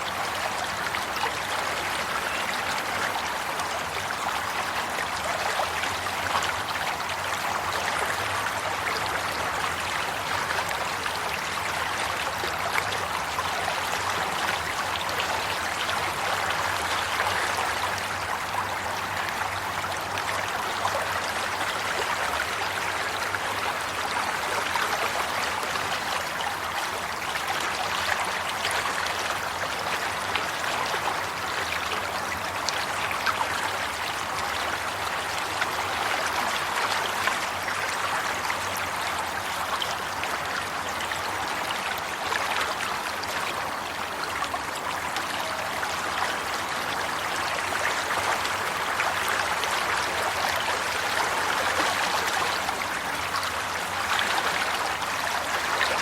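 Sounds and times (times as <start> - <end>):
stream water babbling: 0.0 - 56.0.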